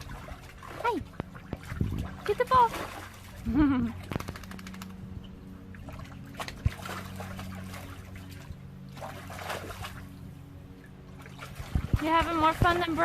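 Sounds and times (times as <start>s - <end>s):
steady low hum: 0.0s - 13.0s
water splashing and trickling: 0.0s - 13.0s.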